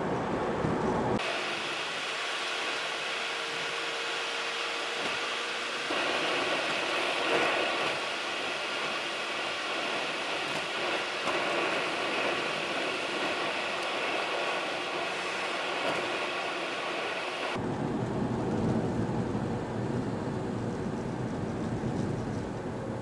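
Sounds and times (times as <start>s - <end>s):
road and tyre noise: 0.0s - 23.0s.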